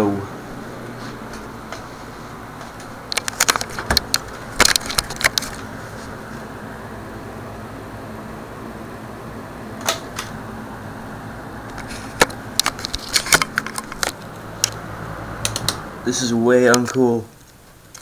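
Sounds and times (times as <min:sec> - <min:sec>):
box fan whooshing hum: 0:00.0 - 0:18.0.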